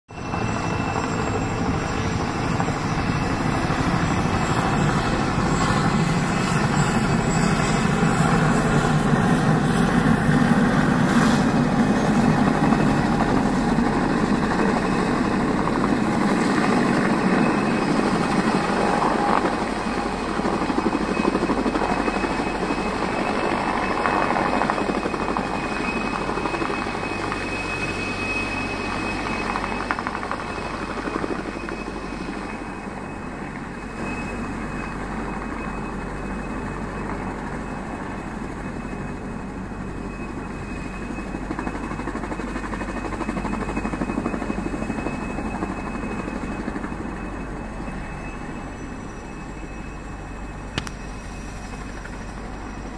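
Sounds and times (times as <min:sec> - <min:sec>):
helicopter rotor beating: 0:00.1 - 0:52.9
helicopter turbine whine: 0:00.1 - 0:52.9.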